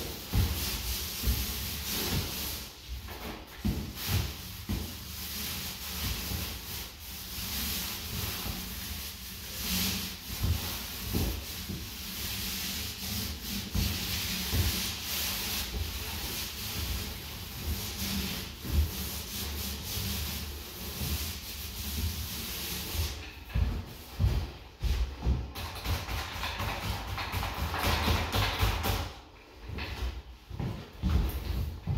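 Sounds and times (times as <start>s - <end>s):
paint roller swishing on wall: 0.0s - 31.9s.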